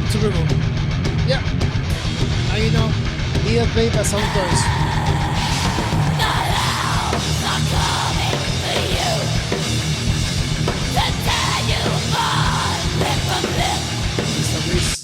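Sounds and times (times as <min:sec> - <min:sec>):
thrash metal song: 0:00.0 - 0:15.0.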